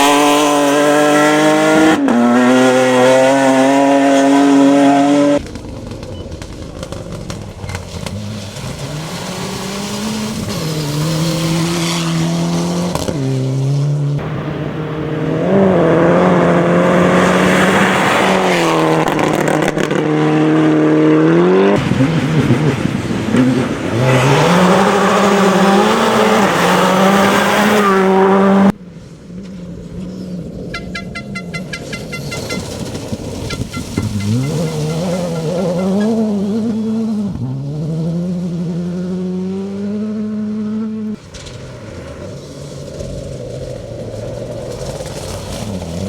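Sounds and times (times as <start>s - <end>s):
distant car engine: 0.0s - 46.0s
rally car engines revving: 0.0s - 46.0s.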